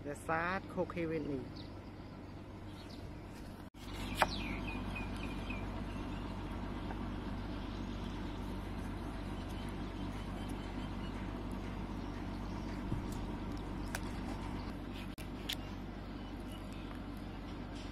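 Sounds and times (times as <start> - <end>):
low outdoor rumble: 0.0 - 17.9.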